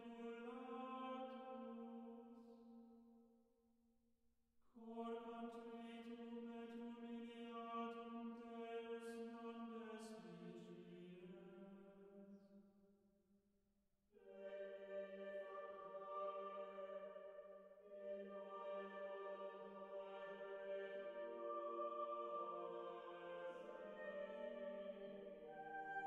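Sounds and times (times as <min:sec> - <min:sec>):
slow chant-like background music: 0:00.0 - 0:02.7, 0:04.8 - 0:12.5, 0:14.2 - 0:26.0.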